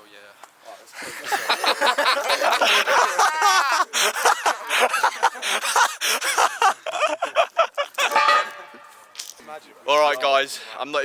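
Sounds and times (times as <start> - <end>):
men laughing and chattering: 0.6 - 11.0.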